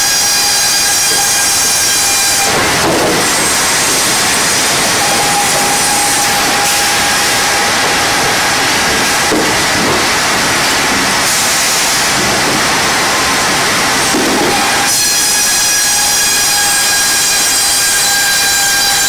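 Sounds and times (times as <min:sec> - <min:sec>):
sawmill machinery rushing: 0:00.0 - 0:19.0.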